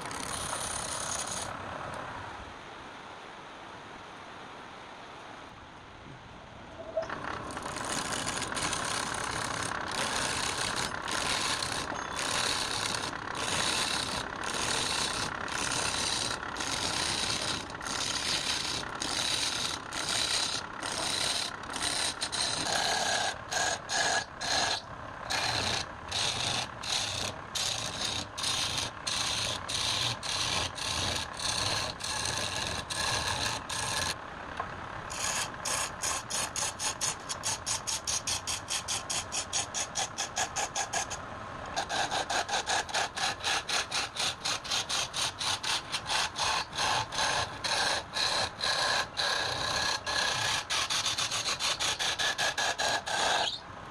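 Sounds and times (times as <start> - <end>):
rasping strokes on wood: 0.0 - 1.5, 7.3 - 34.2, 35.1 - 53.6.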